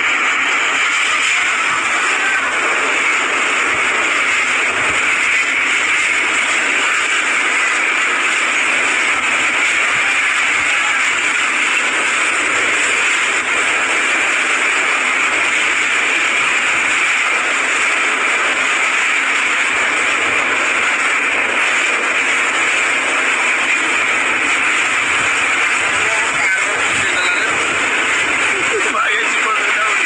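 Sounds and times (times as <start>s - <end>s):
heavy rain: 0.0s - 30.0s
strong wind: 0.0s - 30.0s.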